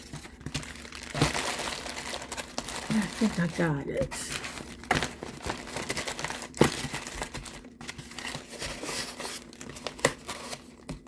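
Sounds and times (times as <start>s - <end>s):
packaging rustling and crackling: 0.0s - 11.0s.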